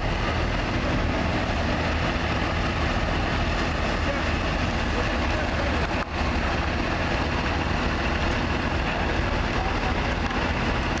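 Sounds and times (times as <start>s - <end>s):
rain hiss: 0.0s - 11.0s
truck engines rumbling: 0.0s - 11.0s.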